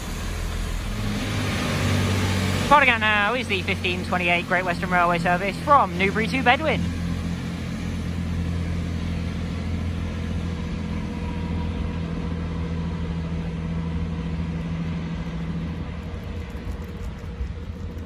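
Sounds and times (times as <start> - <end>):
diesel train engine drone: 0.0 - 18.0.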